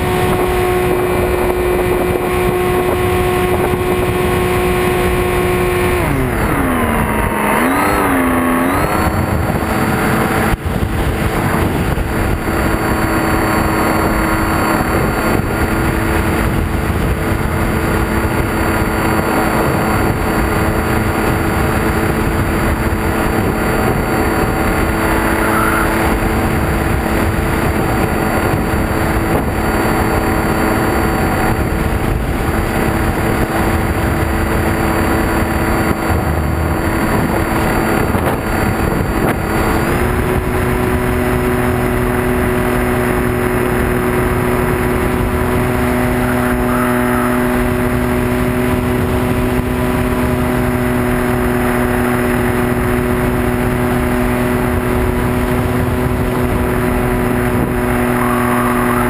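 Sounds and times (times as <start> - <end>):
model plane electric motor whine: 0.0 - 59.0
wind rush: 0.0 - 59.0.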